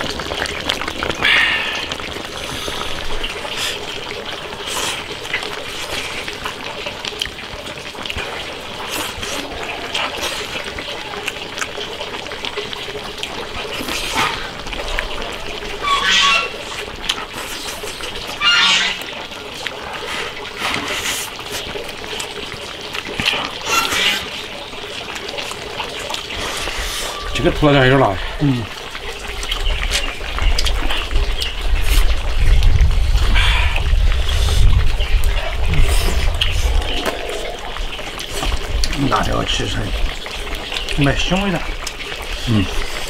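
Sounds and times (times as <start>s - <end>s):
liquid trickling and splashing: 0.0s - 43.0s.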